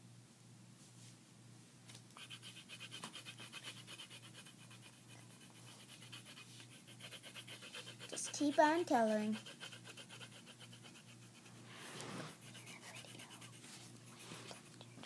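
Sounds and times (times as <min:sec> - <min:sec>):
colouring tool scratching on paper: 0:02.2 - 0:14.7.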